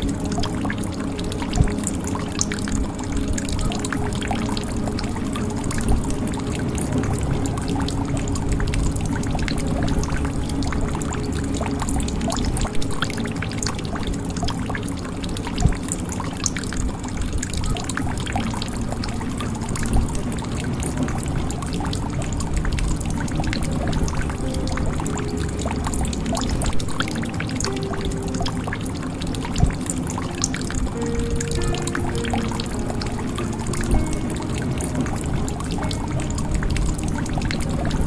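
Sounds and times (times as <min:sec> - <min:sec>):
water drops dripping: 0:00.0 - 0:38.0.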